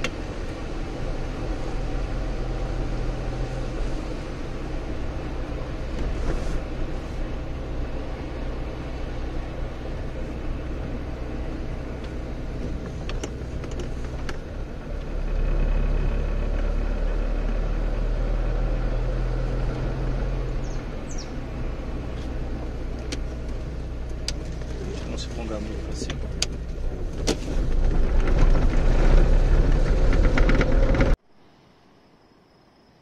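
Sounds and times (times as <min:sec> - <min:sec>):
car engine hum: 0:00.0 - 0:31.6.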